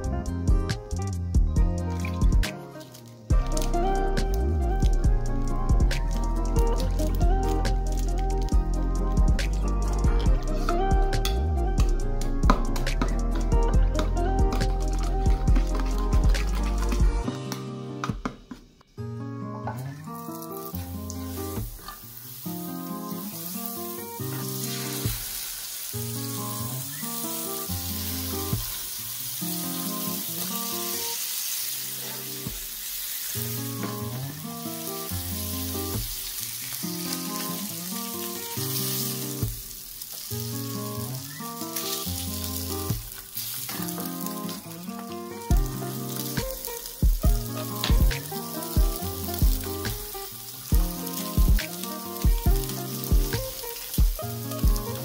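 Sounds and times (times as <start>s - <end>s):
background music: 0.0s - 55.0s
fish sizzling in a pan: 1.9s - 17.2s, 20.0s - 55.0s.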